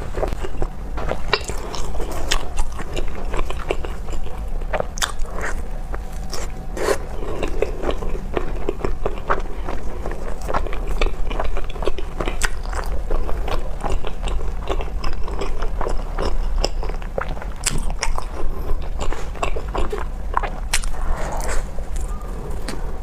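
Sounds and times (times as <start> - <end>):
biting and chewing bread: 0.0 - 22.9.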